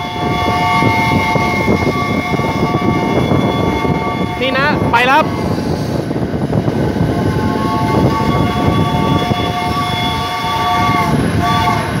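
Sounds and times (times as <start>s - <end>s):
train horn: 0.0s - 6.0s, 7.1s - 12.0s
moving train rumble and clatter: 0.0s - 12.0s.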